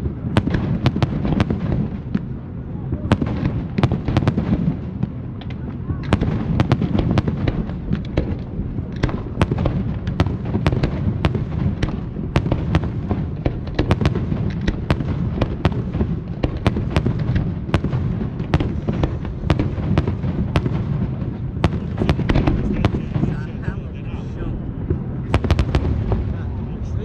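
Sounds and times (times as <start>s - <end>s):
fireworks cracks and bangs: 0.0s - 27.0s
low rumble of explosions: 0.0s - 27.0s.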